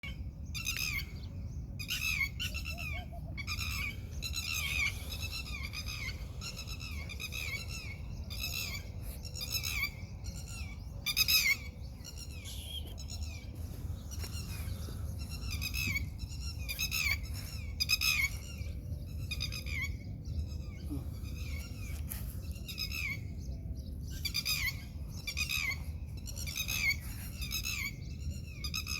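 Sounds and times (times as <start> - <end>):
baby birds calling: 0.0 - 28.9
low steady rumble: 0.0 - 28.9.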